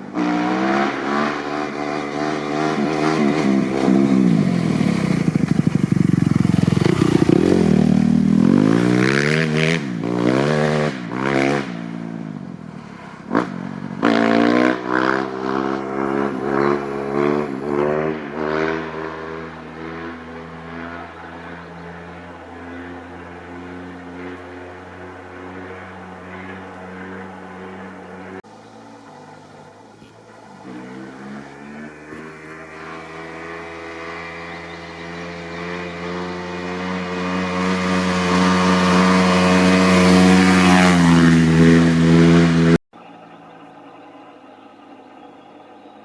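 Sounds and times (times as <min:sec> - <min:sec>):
dirt bike engine revving: 0:00.0 - 0:42.8.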